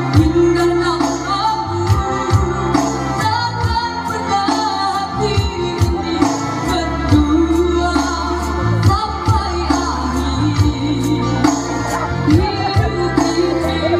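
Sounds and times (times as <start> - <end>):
amplified backing music: 0.0 - 13.9
girl singing into microphone: 0.0 - 13.9.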